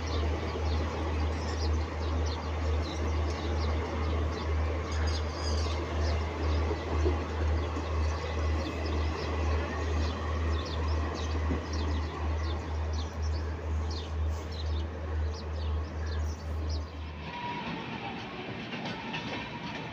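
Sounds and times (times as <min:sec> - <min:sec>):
birds chirping: 0:00.0 - 0:19.9
train coaches rumbling past: 0:00.0 - 0:19.9.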